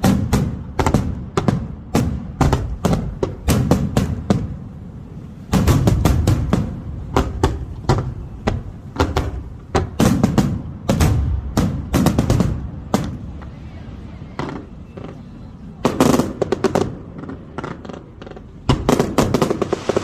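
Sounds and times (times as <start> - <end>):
fireworks bursting with rumbling echo: 0.0 - 20.0.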